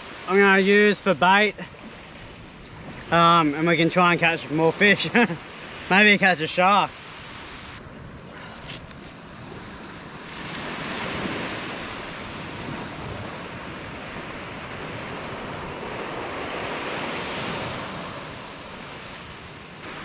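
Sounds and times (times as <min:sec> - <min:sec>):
wind buffeting microphone: 0:00.0 - 0:05.9, 0:07.0 - 0:20.0
surf washing onto beach: 0:00.0 - 0:20.0.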